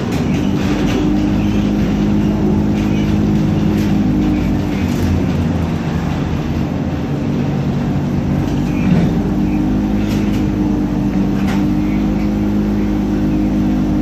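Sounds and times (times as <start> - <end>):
trolleybus electric hum: 0.0 - 14.0.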